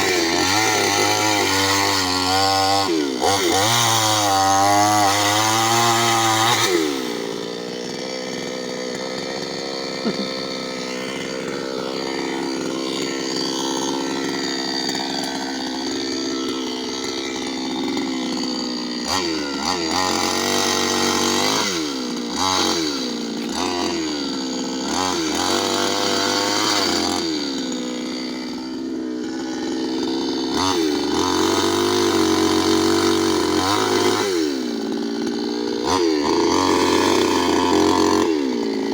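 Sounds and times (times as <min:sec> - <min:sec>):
chainsaw cutting into tree: 0:00.0 - 0:38.9.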